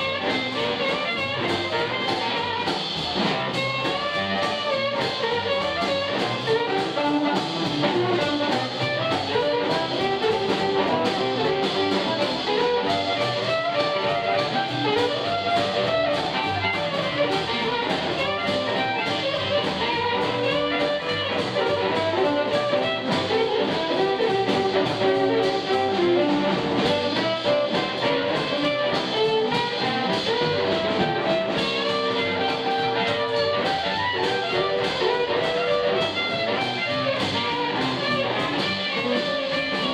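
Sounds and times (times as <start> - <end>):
amplified blues harmonica: 0.0 - 39.9
drums: 0.0 - 39.9
electric guitar: 0.0 - 39.9
upright double bass: 0.0 - 39.9.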